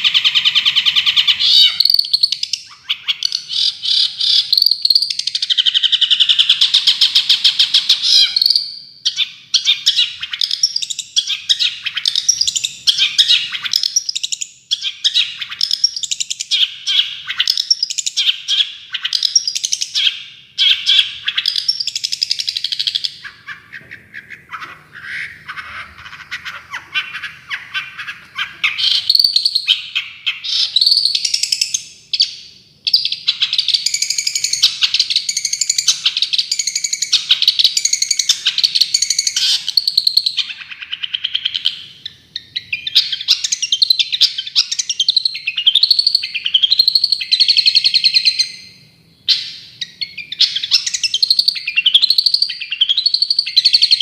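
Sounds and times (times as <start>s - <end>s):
songbird chattering and trilling: 0.0s - 54.0s.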